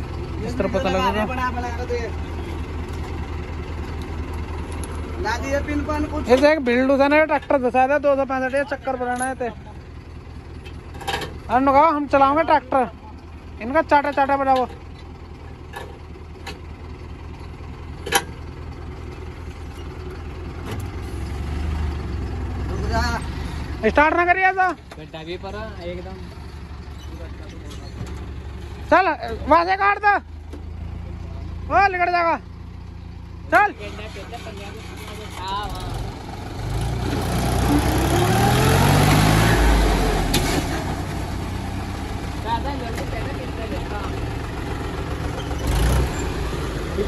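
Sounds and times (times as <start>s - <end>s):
tractor diesel engine idling: 0.0s - 47.0s.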